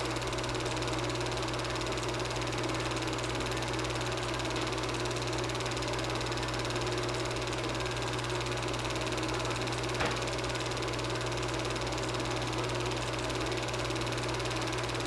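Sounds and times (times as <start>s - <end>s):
projector motor hum: 0.0s - 15.0s.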